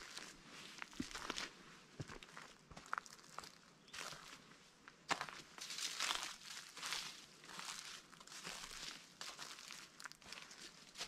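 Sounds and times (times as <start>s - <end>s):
footsteps on dirt trail: 0.0s - 11.0s.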